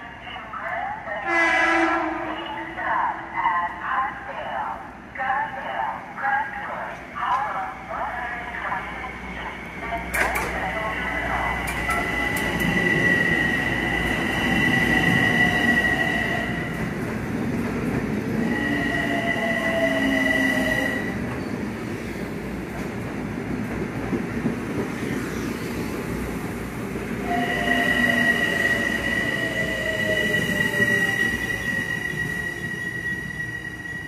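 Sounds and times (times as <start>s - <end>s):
electric train rumble: 6.0s - 34.0s.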